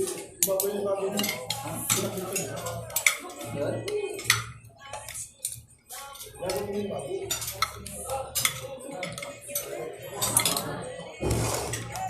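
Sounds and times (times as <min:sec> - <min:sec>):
cutlery clinking on a plate: 0:00.0 - 0:12.0.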